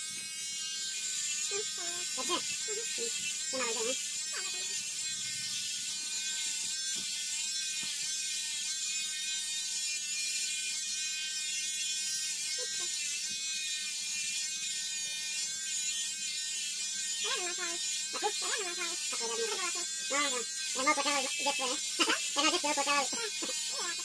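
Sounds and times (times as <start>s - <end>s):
electric hair clipper buzzing: 0.0s - 24.0s.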